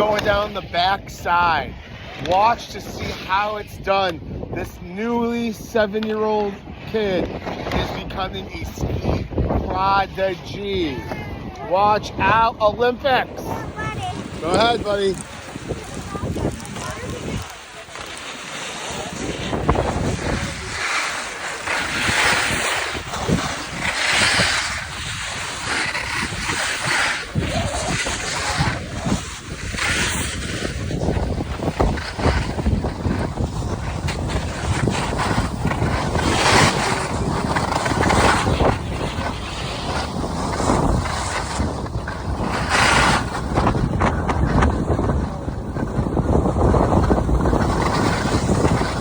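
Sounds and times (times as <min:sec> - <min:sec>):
wind buffeting microphone: 0:00.0 - 0:05.8, 0:06.4 - 0:49.0
skis scraping across snow: 0:00.0 - 0:49.0.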